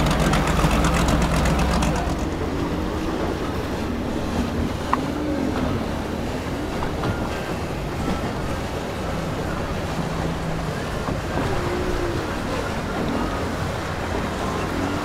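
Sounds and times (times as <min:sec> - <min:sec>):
motorboat engines running: 0:00.0 - 0:15.0
water rushing from wakes: 0:00.0 - 0:15.0.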